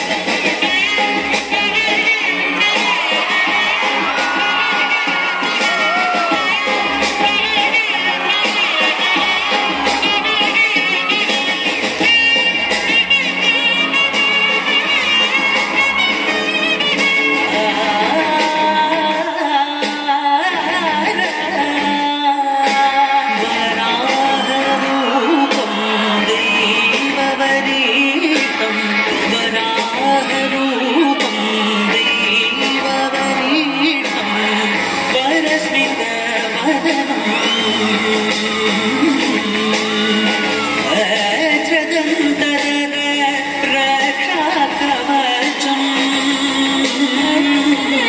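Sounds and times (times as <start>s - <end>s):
instrumental backing music: 0.0s - 48.0s
song over loudspeakers: 0.0s - 48.0s.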